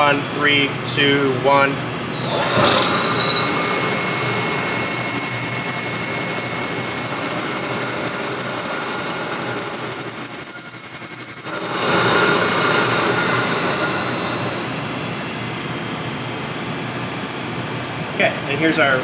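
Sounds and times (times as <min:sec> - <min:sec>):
lubricant tester machine running: 0:00.0 - 0:17.2.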